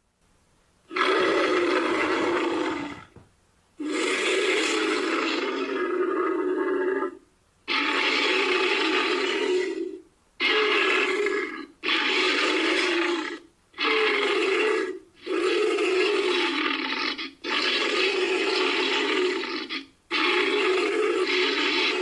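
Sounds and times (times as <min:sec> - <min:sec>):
animal roars: 0:00.9 - 0:03.2, 0:03.8 - 0:22.0.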